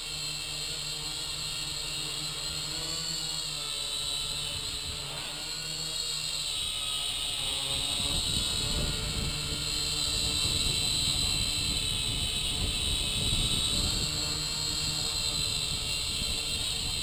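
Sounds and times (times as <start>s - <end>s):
toy drone motors whining: 0.0s - 17.0s.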